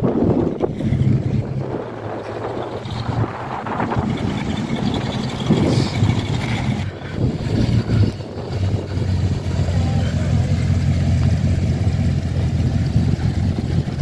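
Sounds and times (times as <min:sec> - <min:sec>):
car engines driving slowly: 0:00.0 - 0:14.0.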